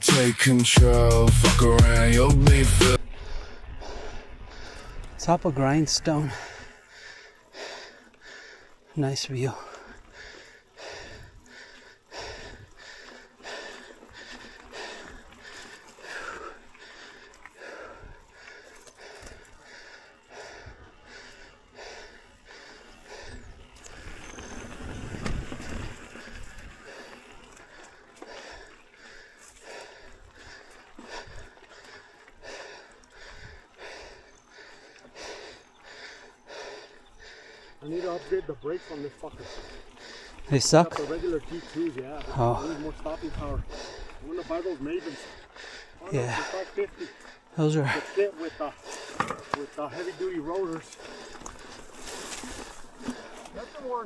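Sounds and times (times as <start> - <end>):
person breathing hard: 0.0 - 5.2, 6.3 - 9.0, 9.6 - 24.4, 25.6 - 54.0.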